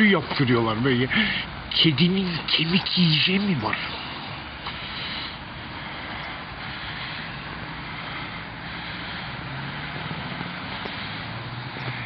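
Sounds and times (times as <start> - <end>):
low engine hum: 0.0 - 12.0
street traffic: 0.0 - 12.0.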